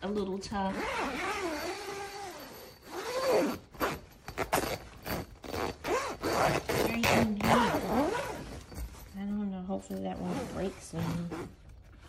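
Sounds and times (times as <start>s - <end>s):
zipper being tugged: 0.6s - 9.2s, 10.2s - 12.0s
tent fabric rustling: 0.7s - 12.0s.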